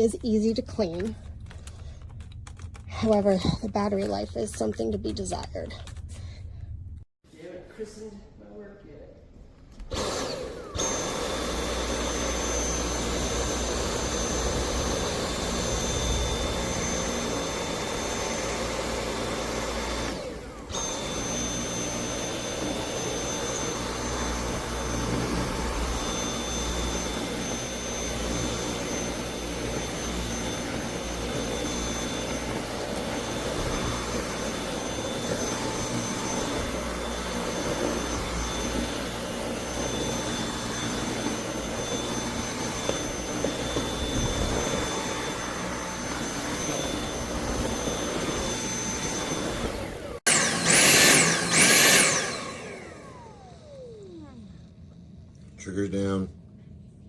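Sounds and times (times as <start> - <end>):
vacuum cleaner whining: 9.7 - 55.8.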